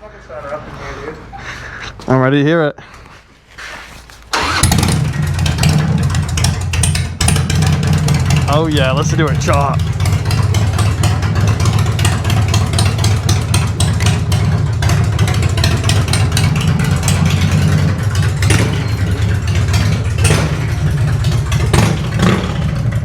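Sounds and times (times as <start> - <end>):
motorcycle engine running loudly: 4.4 - 23.0.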